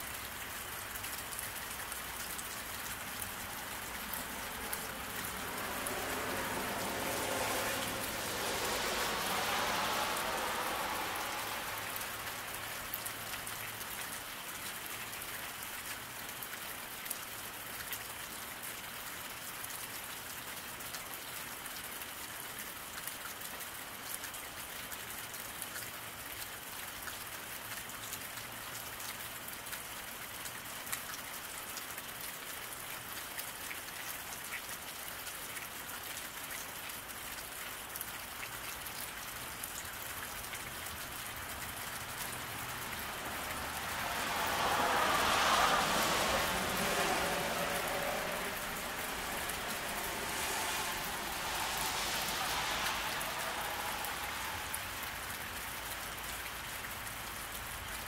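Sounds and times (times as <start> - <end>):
rain falling on pavement: 0.0 - 58.0.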